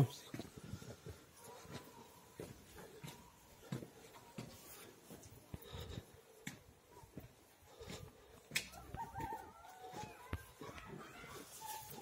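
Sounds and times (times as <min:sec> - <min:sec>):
footsteps on concrete: 0:00.0 - 0:12.0.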